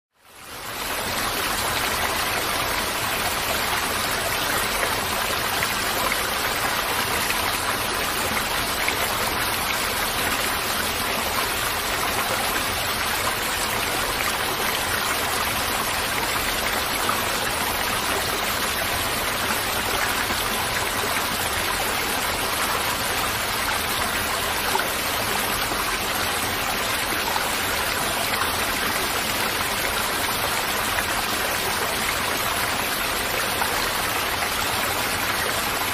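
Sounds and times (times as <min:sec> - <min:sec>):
river water rushing: 0:00.4 - 0:35.9.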